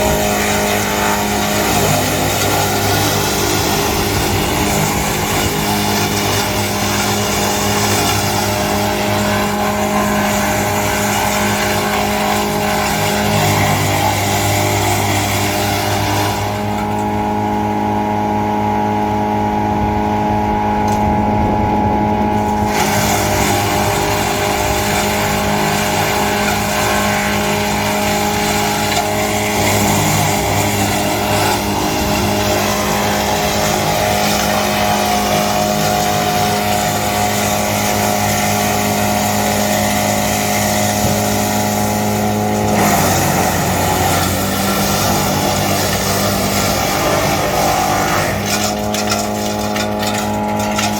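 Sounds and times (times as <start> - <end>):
wood being chipped: 0.0 - 17.0, 22.4 - 50.9
tractor and woodchipper humming: 0.0 - 50.9.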